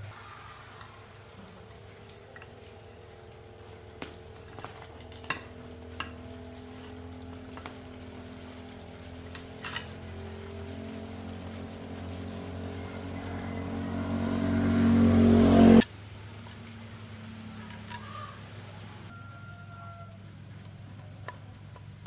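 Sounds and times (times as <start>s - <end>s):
welding transformer humming: 0.0s - 19.1s.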